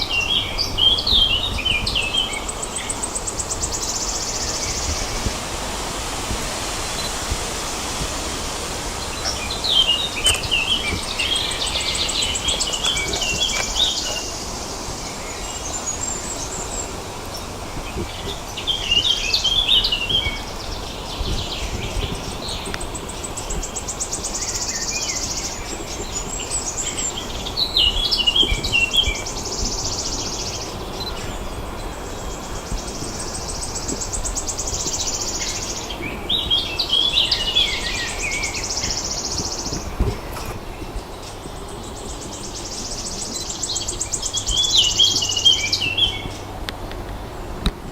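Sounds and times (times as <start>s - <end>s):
songbirds singing: 0.0s - 47.9s
steady background hiss: 0.0s - 47.9s.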